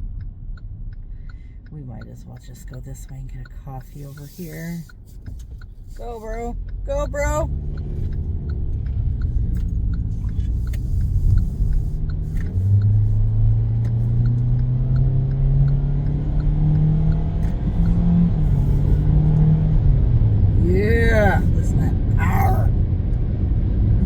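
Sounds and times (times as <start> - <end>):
faint regular ticking: 0.0 - 19.4
car engine accelerating: 1.7 - 24.0.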